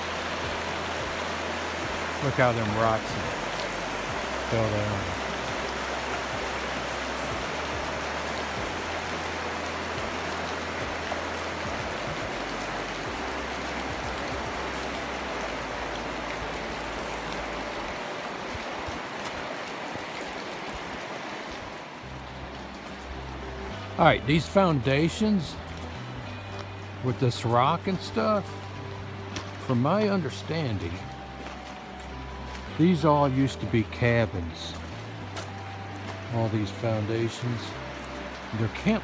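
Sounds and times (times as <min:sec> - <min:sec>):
creek water rushing over rocks: 0:00.0 - 0:39.0.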